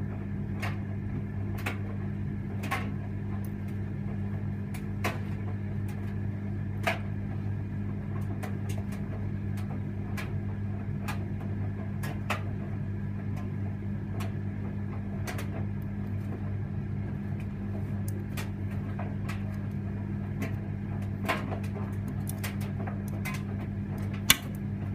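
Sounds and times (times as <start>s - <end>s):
tumble dryer motor hum: 0.0s - 24.9s.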